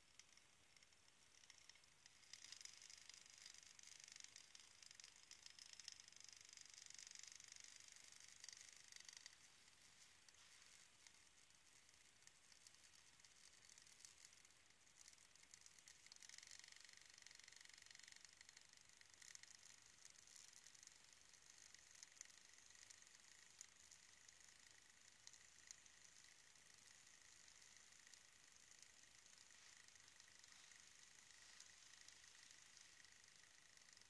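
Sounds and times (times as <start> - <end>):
alcohol stove hissing: 0.0 - 34.0
soft ticks: 0.0 - 34.0.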